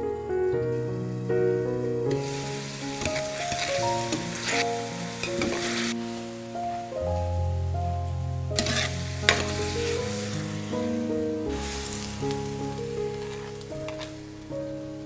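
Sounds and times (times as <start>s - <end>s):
background music with held notes: 0.0s - 15.0s
okra sizzling in a pan: 2.1s - 15.0s.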